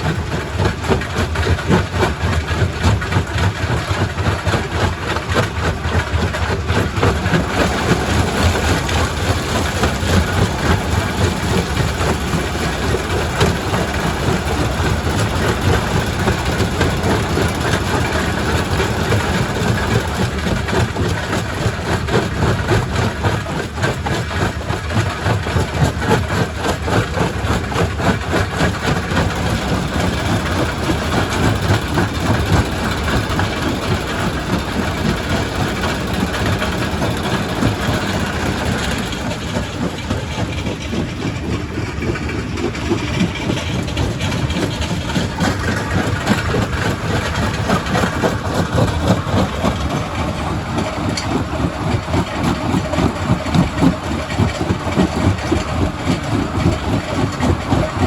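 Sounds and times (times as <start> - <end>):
rock crusher rumbling: 0.0 - 58.0.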